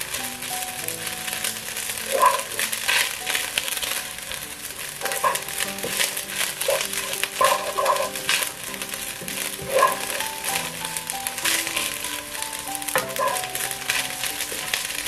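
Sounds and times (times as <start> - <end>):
rice sizzling in a wok: 0.0 - 15.0
soft background music: 0.0 - 15.0
wooden spatula scraping a wok: 0.0 - 15.0.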